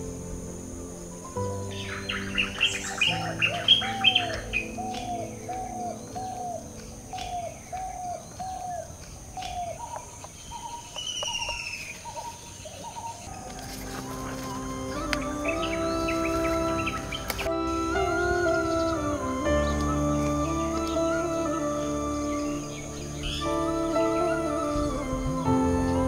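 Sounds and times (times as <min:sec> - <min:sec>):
birds chirping: 0:00.0 - 0:26.0
descending bird whistle: 0:01.7 - 0:13.2, 0:13.8 - 0:26.0.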